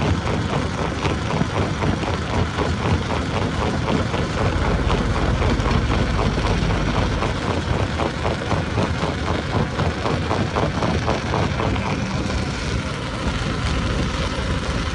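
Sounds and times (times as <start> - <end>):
rapid regular clatter of knocks: 0.0 - 14.9
stone-crushing machinery running: 0.0 - 14.9.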